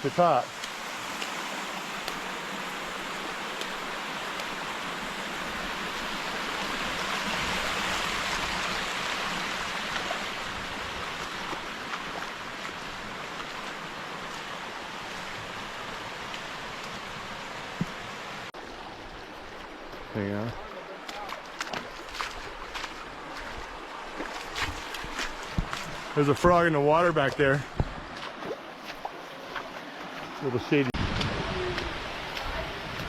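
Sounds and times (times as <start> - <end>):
creek water rushing over rock: 0.0 - 33.0.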